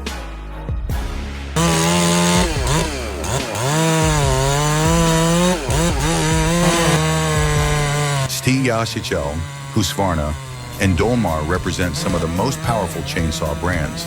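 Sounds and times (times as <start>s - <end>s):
background music: 0.0s - 14.0s
chainsaw cutting wood: 1.6s - 14.0s.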